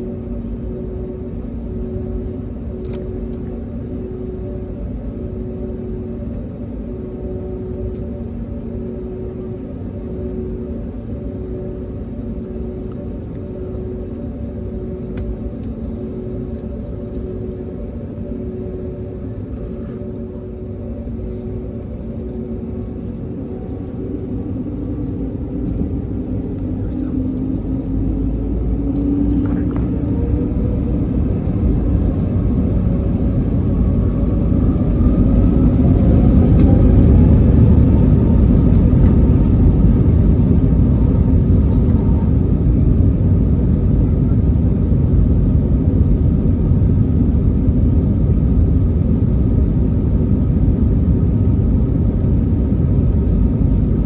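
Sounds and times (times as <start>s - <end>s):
aircraft takeoff roar: 0.0s - 54.0s
jet engines whining: 0.0s - 54.0s.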